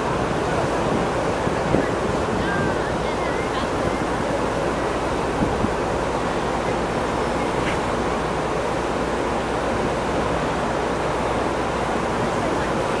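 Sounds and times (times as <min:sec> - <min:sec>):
ship engines droning: 0:00.0 - 0:13.0
water rushing: 0:00.0 - 0:13.0.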